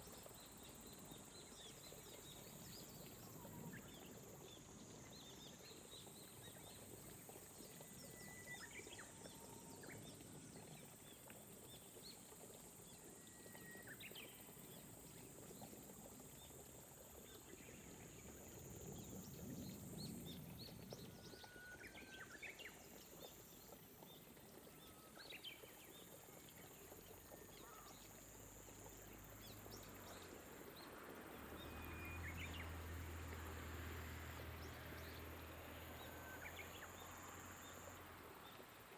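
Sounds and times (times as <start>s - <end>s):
gentle rain falling: 0.0s - 38.9s.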